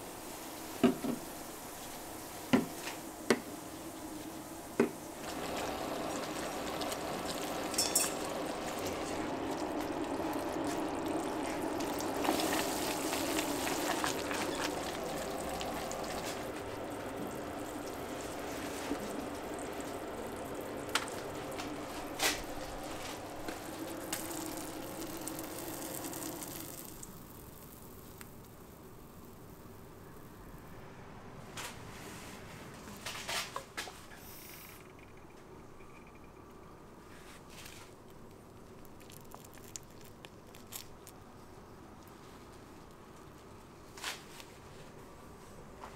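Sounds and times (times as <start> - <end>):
syrup boiling in pot: 0.0 - 31.1, 34.2 - 45.8.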